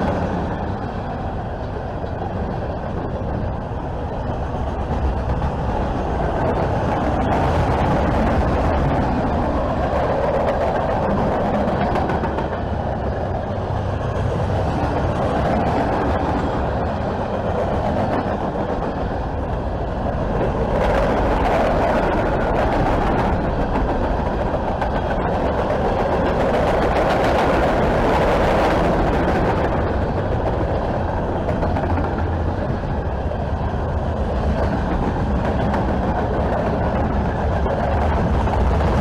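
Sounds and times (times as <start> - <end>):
freight train wheels rumbling on rails: 0.0 - 39.0.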